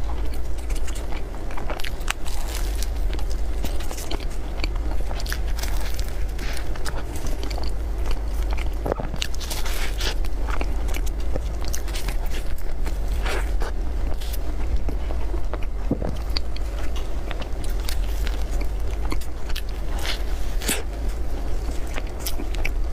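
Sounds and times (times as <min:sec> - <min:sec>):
crisp pastry bites and chewing: 0:00.0 - 0:22.9
steady low hum: 0:00.0 - 0:22.9.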